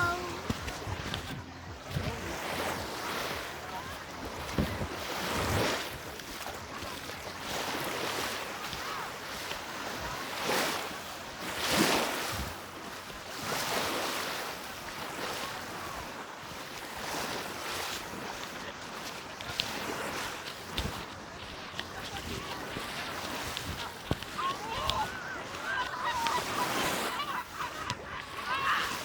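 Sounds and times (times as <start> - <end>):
small waves washing onto sand: 0.0 - 29.0.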